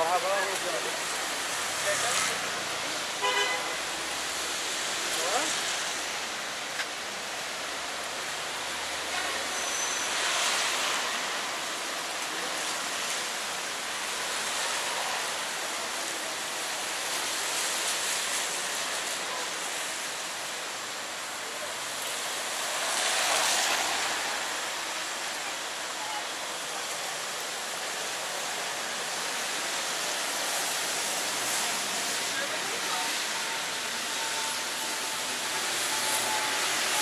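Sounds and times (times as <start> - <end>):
rain hiss: 0.0 - 37.0
tyres swishing on wet asphalt: 0.0 - 37.0.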